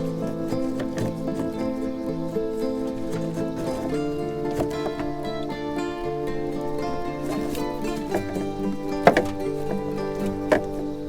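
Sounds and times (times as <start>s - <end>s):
plucked-string background music: 0.0s - 11.0s.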